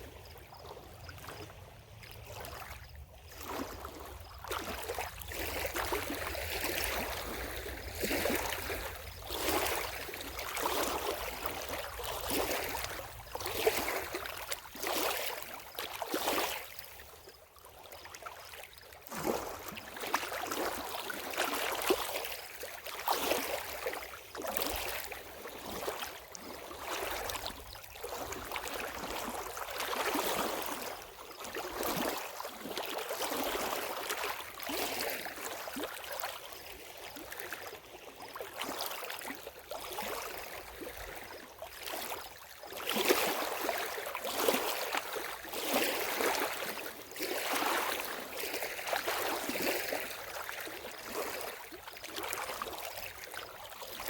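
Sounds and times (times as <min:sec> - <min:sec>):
lake water splashing at shore: 0:00.0 - 0:54.0.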